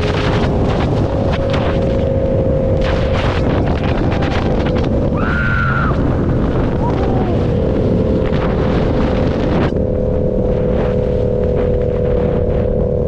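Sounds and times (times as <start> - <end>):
motorcycle engine running: 0.0 - 5.2, 5.9 - 13.0
wind noise on microphone: 0.0 - 13.0.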